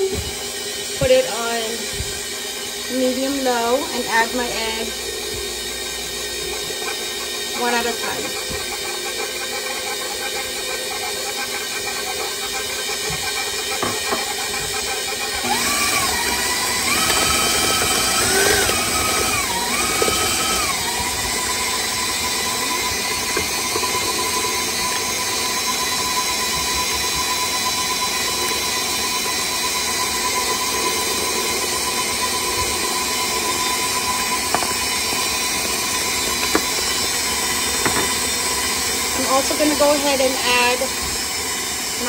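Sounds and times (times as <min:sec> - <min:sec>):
stand mixer motor whining: 0:00.0 - 0:42.0.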